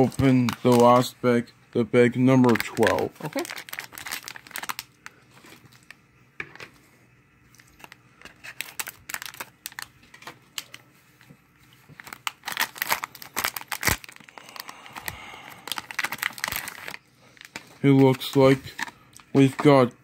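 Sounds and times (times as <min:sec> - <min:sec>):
foil bag crinkling and tearing: 0:00.0 - 0:01.2, 0:02.1 - 0:06.0, 0:07.5 - 0:10.9, 0:11.7 - 0:19.9.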